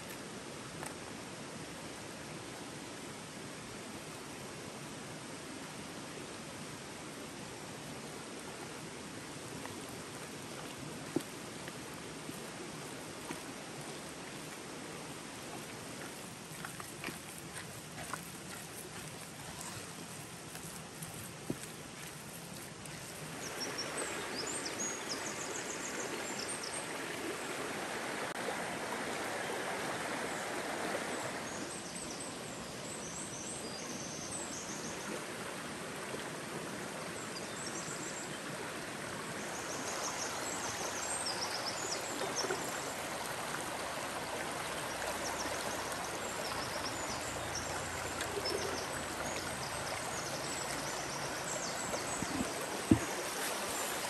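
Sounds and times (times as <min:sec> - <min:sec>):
river rushing over stones: 0:00.0 - 0:32.6, 0:34.8 - 0:54.0.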